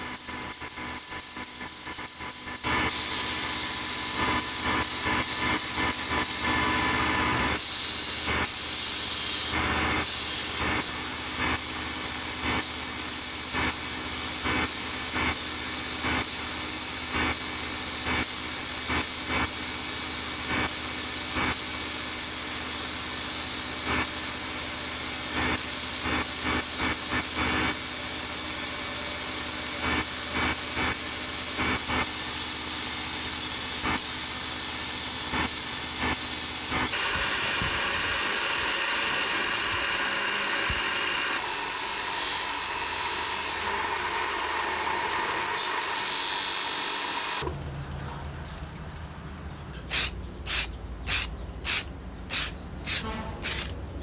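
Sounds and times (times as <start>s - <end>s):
sandblast gun hissing: 0.0s - 47.4s, 49.9s - 54.0s.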